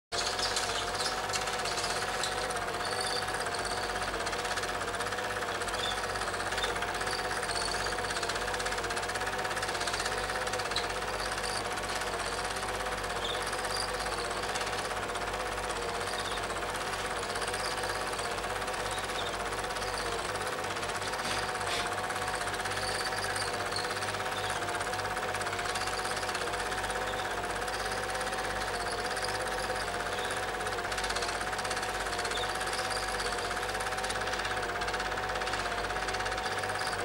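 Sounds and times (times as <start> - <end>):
rapid mechanical clatter: 0.1 - 37.0.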